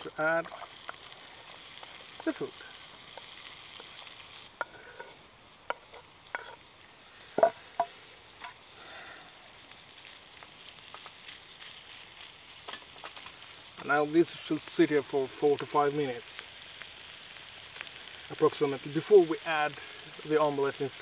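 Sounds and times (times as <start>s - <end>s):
food sizzling in a pot: 0.0s - 21.0s.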